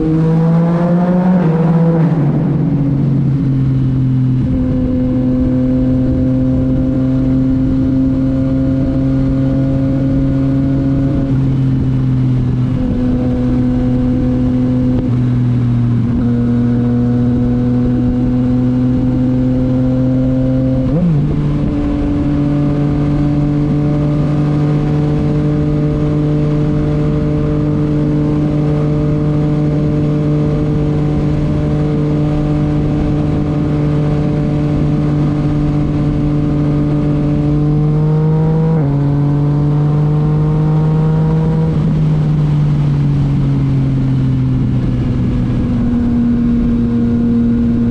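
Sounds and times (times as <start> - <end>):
motorcycle engine while riding: 0.0 - 47.9.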